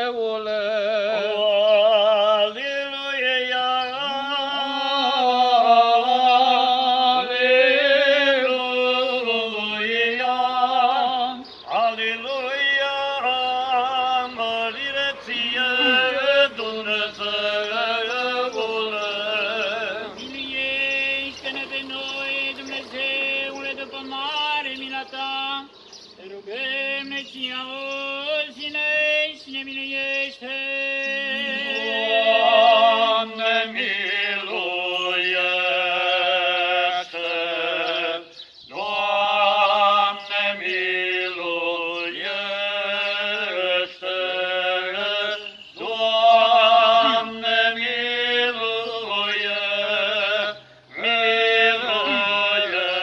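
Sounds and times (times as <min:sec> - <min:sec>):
male voices chanting a hymn: 0:00.0 - 0:53.0.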